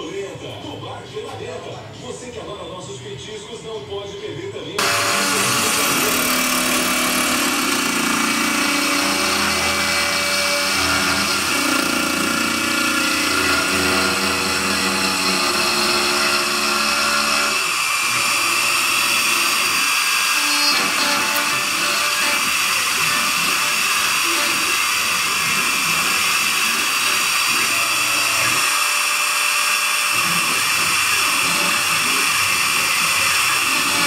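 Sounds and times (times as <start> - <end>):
bit cutting wood: 4.8 - 34.0
router spindle whining: 4.8 - 34.0.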